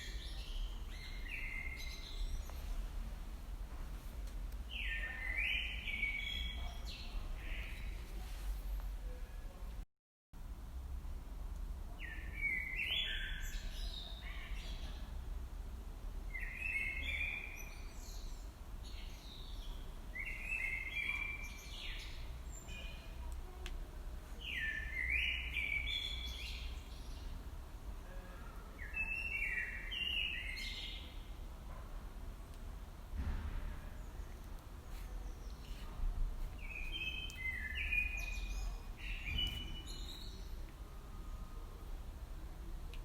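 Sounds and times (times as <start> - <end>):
songbird chirping: 0.0 - 9.6, 12.0 - 15.2, 16.3 - 31.5, 33.8 - 43.0.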